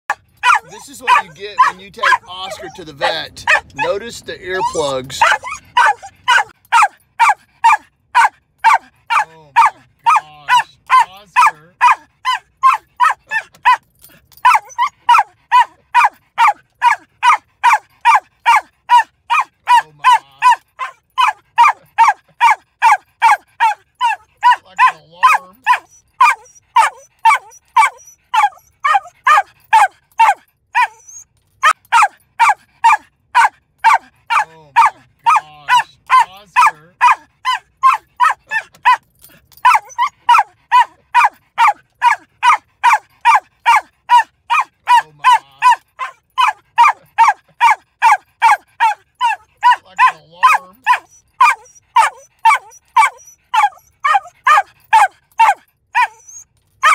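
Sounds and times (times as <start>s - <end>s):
small dog yapping: 0.4s - 13.8s, 14.4s - 39.0s, 39.6s - 56.9s.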